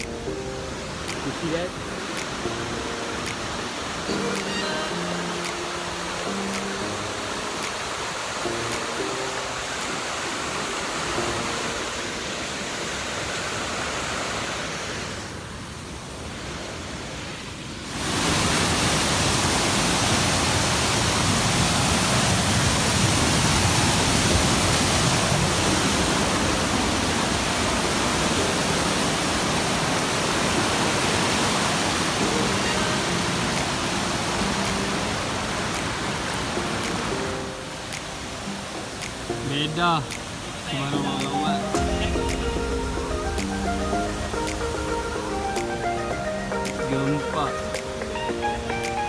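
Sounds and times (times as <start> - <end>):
waterfall roar: 0.0 - 49.0.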